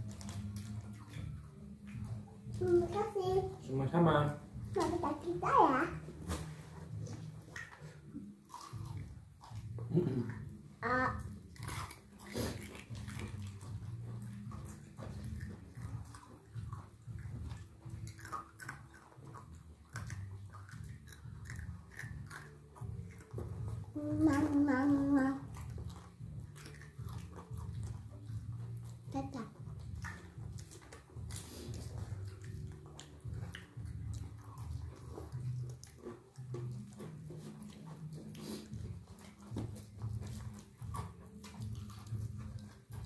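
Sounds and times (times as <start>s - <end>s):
people chewing and mouth-smacking: 0.0s - 5.4s, 6.0s - 43.0s.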